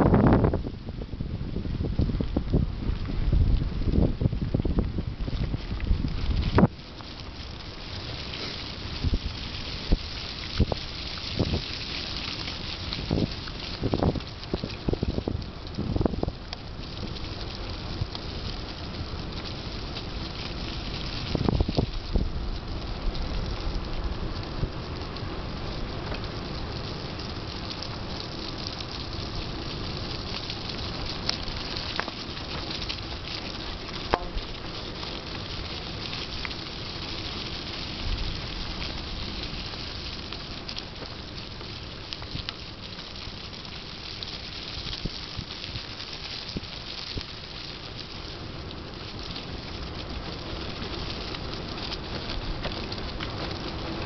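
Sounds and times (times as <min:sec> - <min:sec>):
bike tyres rolling over dry leaves: 0:00.0 - 0:54.0.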